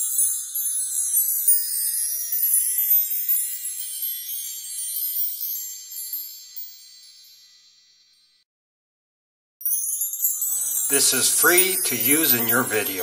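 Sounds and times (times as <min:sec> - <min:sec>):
chimes ringing: 0:00.0 - 0:08.4, 0:09.6 - 0:13.0.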